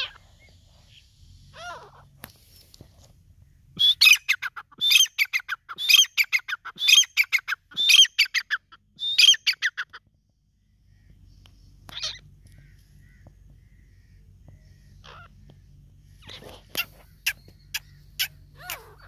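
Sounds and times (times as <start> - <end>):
francolin calling: 3.4 - 19.0.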